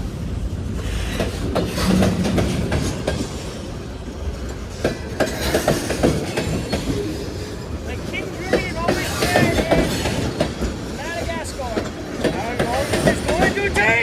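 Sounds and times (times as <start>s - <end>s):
train rumble: 0.0s - 14.0s
train wheels clacking over rail joints: 0.0s - 14.0s.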